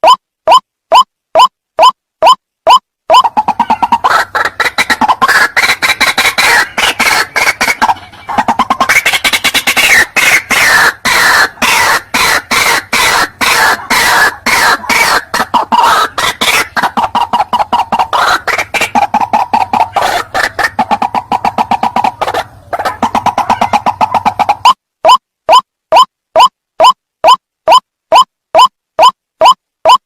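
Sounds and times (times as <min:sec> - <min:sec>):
waterhen harsh clucking calls: 0:00.0 - 0:30.0.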